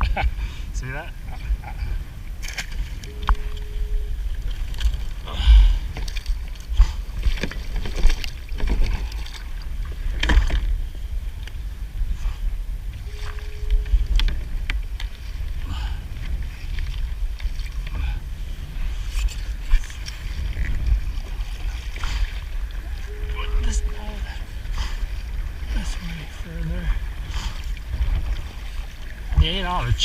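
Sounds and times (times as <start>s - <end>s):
steady low rumble: 0.0s - 30.0s
water splashing around kayak: 0.0s - 30.0s.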